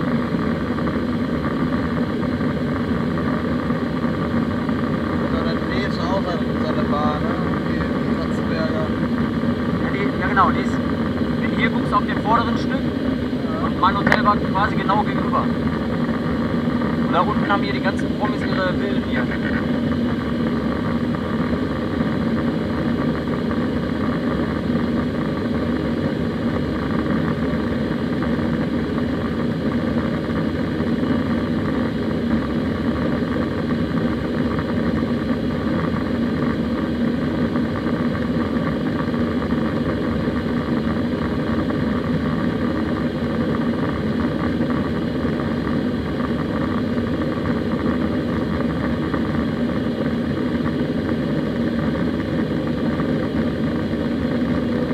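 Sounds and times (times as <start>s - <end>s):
airplane cabin engine drone: 0.0s - 54.9s.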